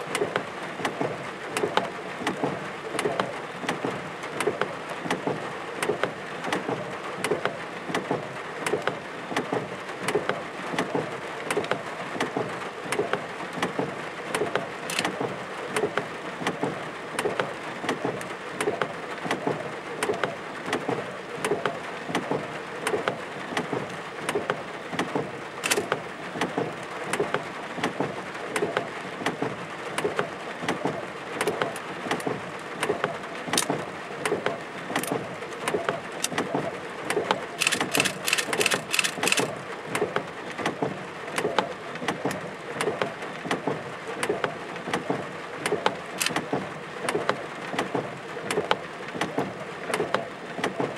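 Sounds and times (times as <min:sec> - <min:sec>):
rain falling steadily: 0:00.0 - 0:50.9
raindrops tapping a surface: 0:00.0 - 0:50.9.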